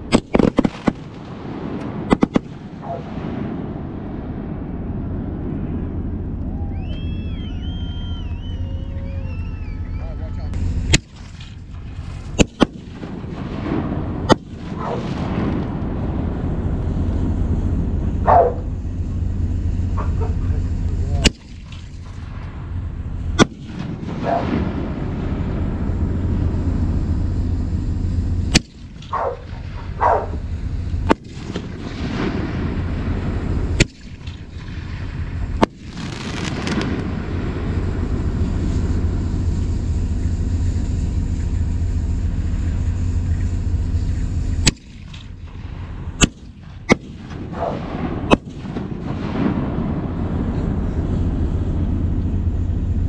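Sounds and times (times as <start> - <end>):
firework shells banging: 0.0 - 3.0, 10.5 - 17.2, 18.0 - 27.2, 28.2 - 52.7
rumble of firework booms: 0.0 - 53.0.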